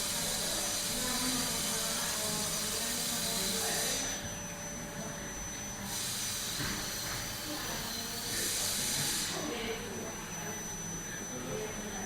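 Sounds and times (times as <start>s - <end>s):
faint murmur of voices: 0.0s - 12.0s.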